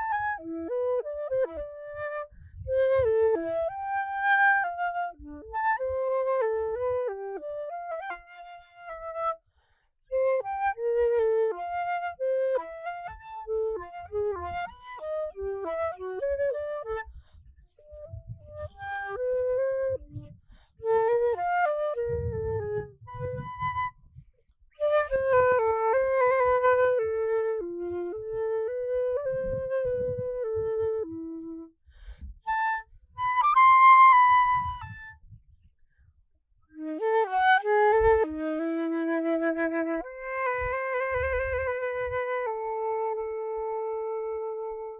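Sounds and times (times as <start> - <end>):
solo flute melody: 0.0 - 35.8, 36.6 - 44.9.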